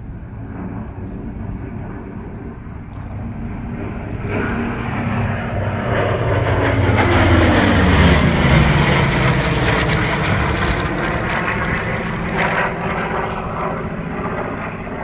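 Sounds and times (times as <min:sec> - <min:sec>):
propeller plane engines flying by: 0:00.0 - 0:15.0.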